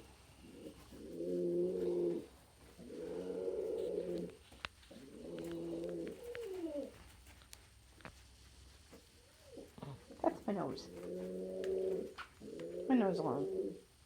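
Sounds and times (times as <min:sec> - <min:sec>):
pigeon cooing: 0:00.0 - 0:07.1, 0:09.3 - 0:14.0.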